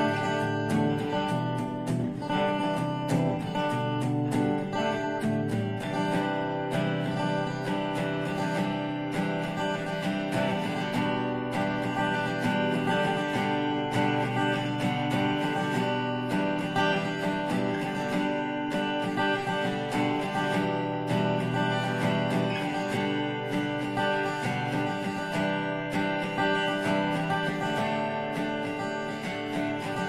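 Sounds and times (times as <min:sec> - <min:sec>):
strummed acoustic guitar: 0:00.0 - 0:30.0.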